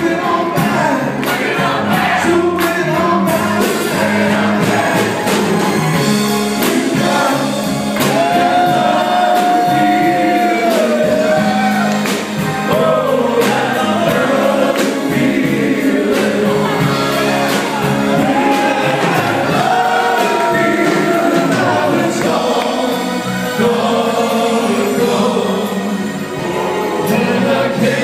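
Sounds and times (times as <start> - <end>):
group singing: 0.0 - 28.0
music with a regular beat: 0.0 - 28.0.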